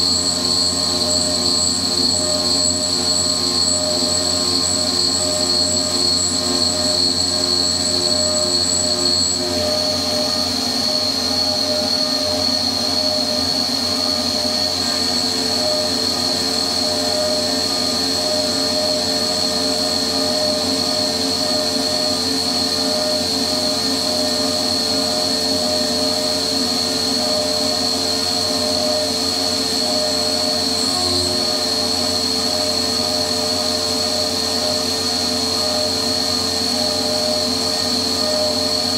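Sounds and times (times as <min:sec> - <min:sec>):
mill spindle high whine: 0:00.0 - 0:38.9.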